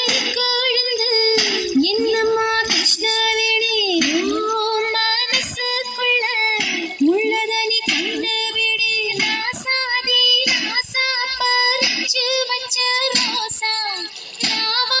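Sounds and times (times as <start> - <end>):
song with high singing voice: 0.0 - 15.0.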